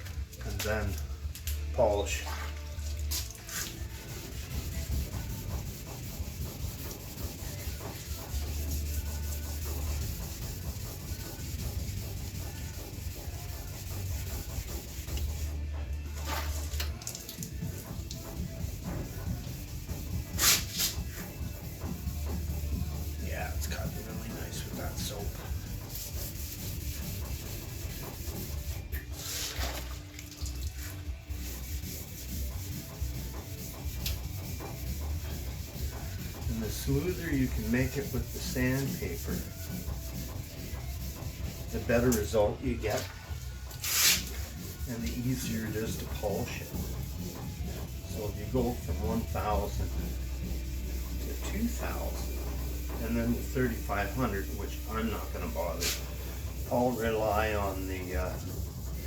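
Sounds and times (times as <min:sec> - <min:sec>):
wet sanding by hand: 0:00.2 - 0:01.2, 0:01.8 - 0:59.0.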